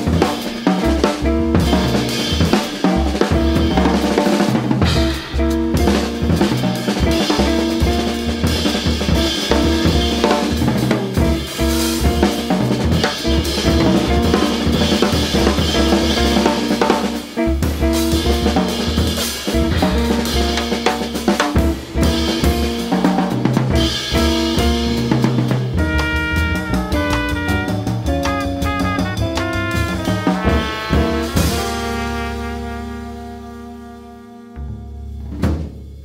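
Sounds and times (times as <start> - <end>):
drum kit: 0.0 - 36.0
jazz group playing: 0.0 - 36.0.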